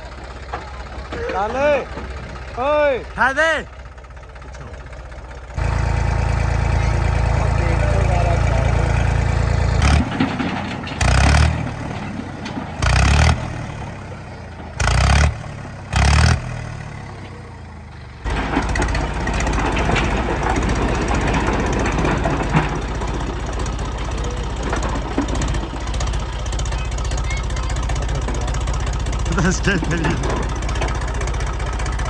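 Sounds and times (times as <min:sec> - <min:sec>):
tractor diesel engine: 0:00.0 - 0:32.0.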